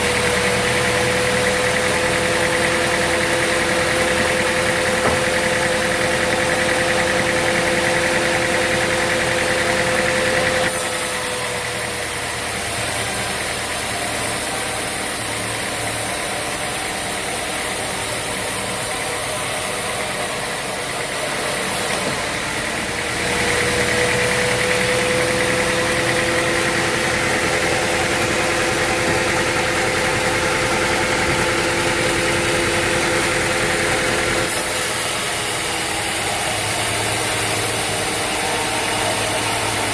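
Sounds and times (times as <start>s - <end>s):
constant machine whine: 0.0s - 39.9s
sawmill machinery running: 0.0s - 39.9s.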